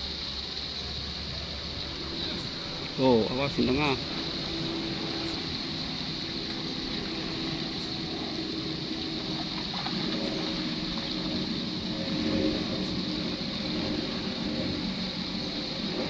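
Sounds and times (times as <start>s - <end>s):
constant high hiss: 0.0s - 16.0s
faint low droning hum: 0.0s - 16.0s.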